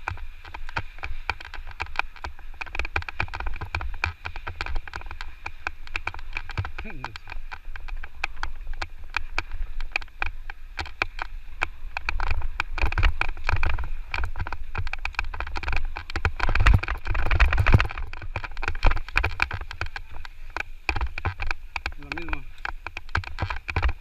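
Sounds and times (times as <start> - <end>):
bike frame and chain rattling: 0.0 - 24.0
wind rumble on microphone: 0.0 - 24.0.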